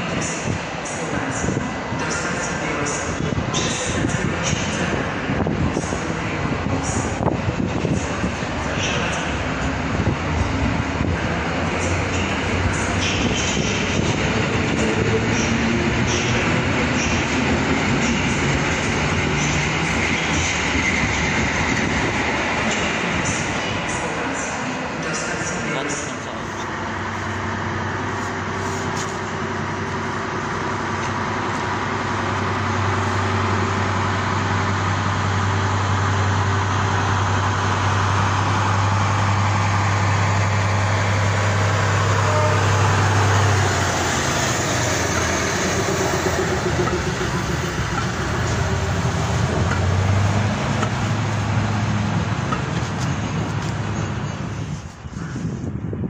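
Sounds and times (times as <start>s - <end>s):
steam train passing: 0.0s - 56.0s.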